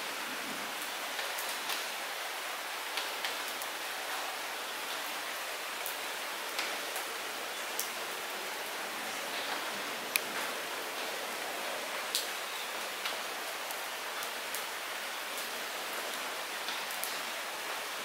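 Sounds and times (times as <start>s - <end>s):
light rain hiss: 0.0s - 18.0s
raindrops ticking on surfaces: 0.0s - 18.0s.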